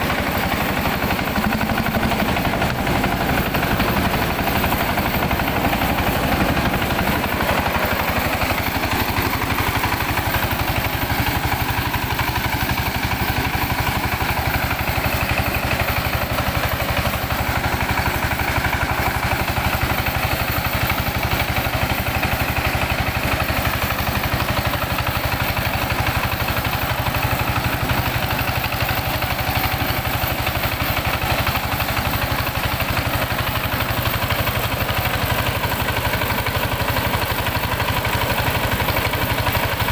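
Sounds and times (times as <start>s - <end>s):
rice huller engine running: 0.0s - 39.9s.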